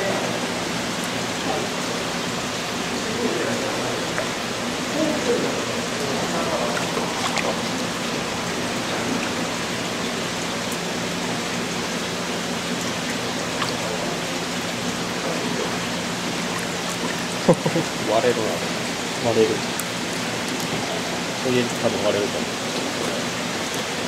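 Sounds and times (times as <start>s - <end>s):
water rushing in tank: 0.0s - 24.0s.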